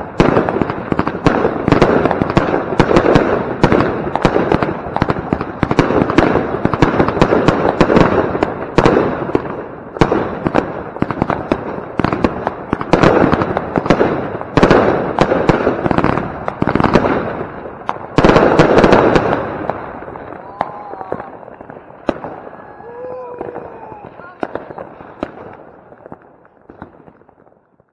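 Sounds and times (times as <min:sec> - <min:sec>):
fireworks launching and bursting: 0:00.0 - 0:27.9
rapid firework crackling: 0:00.0 - 0:27.9.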